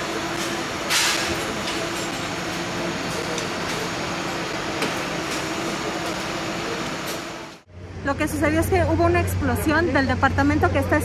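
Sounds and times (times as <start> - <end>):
machinery drone and hiss: 0.0 - 11.0.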